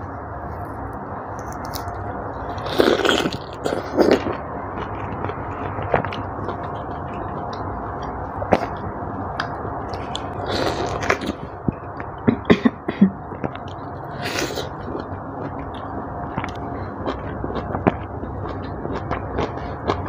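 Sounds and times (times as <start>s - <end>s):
person chewing juicy fruit: 1.4s - 12.2s, 13.3s - 20.0s.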